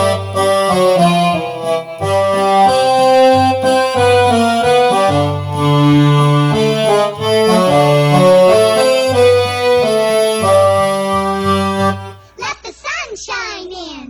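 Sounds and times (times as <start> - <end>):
digital accordion playing: 0.0 - 12.4.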